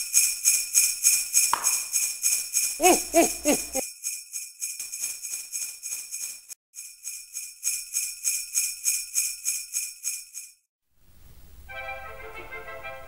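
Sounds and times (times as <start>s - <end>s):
sleigh bells jingling: 0.0s - 10.6s.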